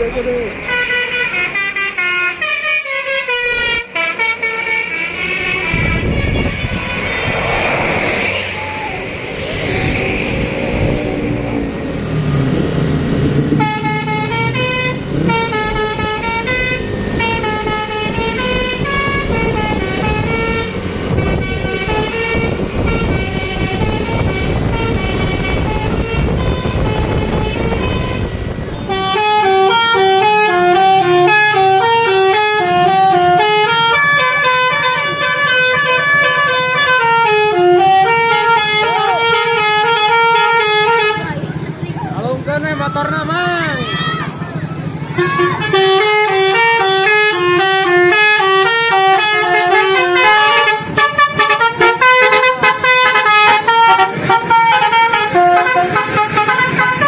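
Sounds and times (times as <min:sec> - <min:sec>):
bus engine: 0:00.0 - 0:57.0
road noise: 0:00.0 - 0:57.0
musical bus horn melody: 0:00.6 - 0:07.4, 0:13.5 - 0:41.5, 0:45.1 - 0:57.0.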